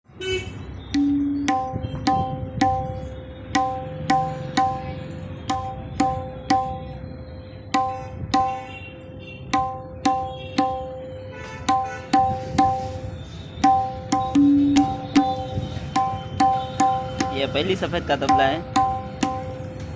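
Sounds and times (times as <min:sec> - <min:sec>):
tabla strokes: 0:00.9 - 0:19.9.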